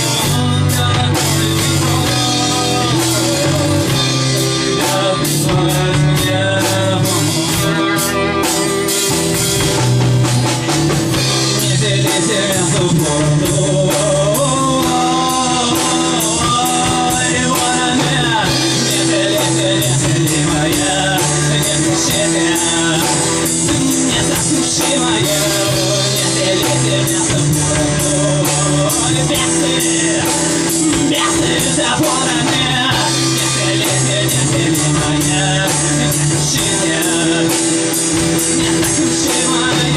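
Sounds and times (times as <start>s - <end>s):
drum kit beat: 0.0s - 39.9s
electric guitar and bass: 0.0s - 39.9s.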